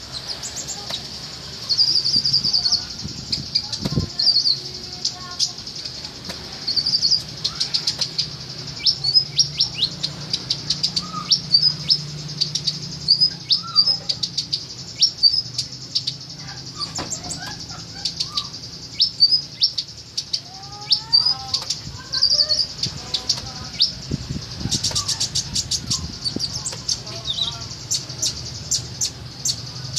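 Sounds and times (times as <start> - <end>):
other birds calling: 0.0 - 29.9
songbird chirping and whistling: 0.0 - 29.9.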